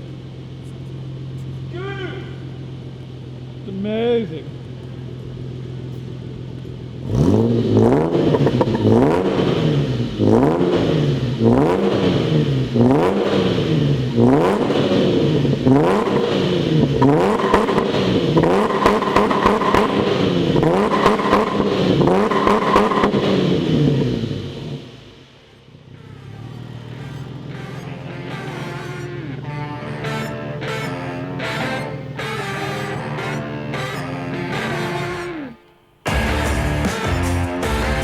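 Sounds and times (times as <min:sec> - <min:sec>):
car engine revving: 0:00.0 - 0:38.0
exhaust crackles: 0:00.0 - 0:38.0.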